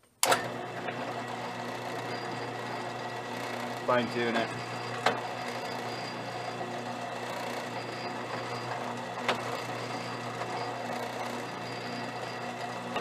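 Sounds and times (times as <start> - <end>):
drill press motor humming: 0.2 - 13.0.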